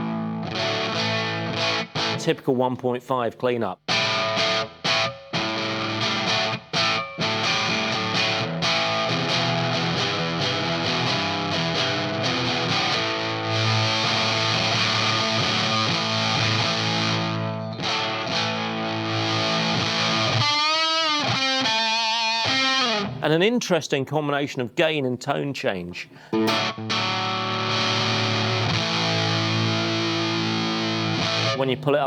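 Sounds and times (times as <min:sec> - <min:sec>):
fuzzy electric guitar: 0:00.0 - 0:02.2, 0:03.8 - 0:23.2, 0:26.3 - 0:31.8.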